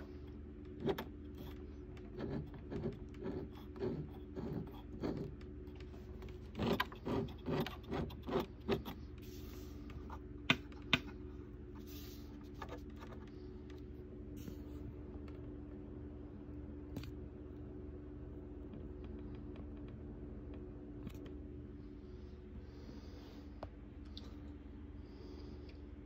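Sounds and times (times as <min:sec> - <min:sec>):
steady projector hum: 0:00.0 - 0:26.0.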